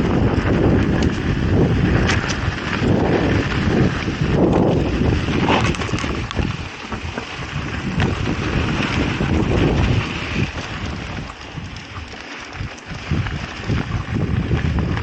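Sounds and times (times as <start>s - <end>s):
bike knocking and rattling: 0.0s - 15.0s
tyres rumbling on dirt: 0.0s - 15.0s
wind buffeting microphone: 0.0s - 15.0s.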